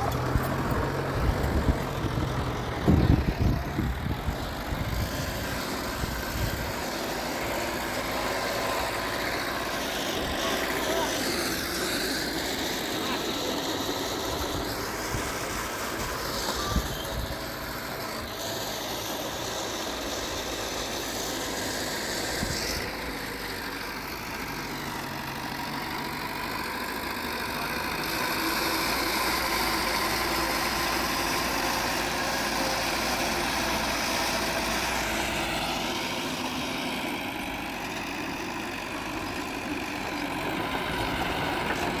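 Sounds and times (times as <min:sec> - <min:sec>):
diesel machinery engine running: 0:00.0 - 0:42.0.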